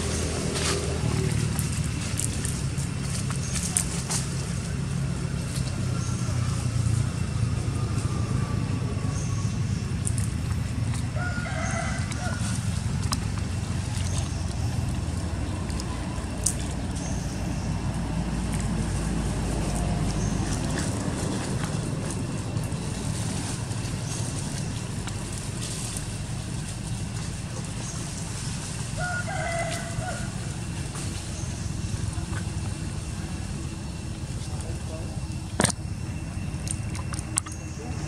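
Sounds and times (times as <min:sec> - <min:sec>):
steady low rumble: 0:00.0 - 0:38.0.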